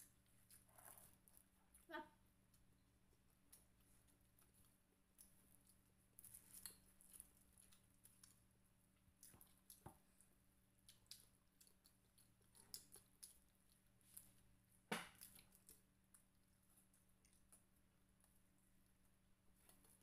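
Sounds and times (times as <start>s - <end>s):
chewing food: 0.0s - 20.0s
soft clicks and small crackles: 0.0s - 20.0s.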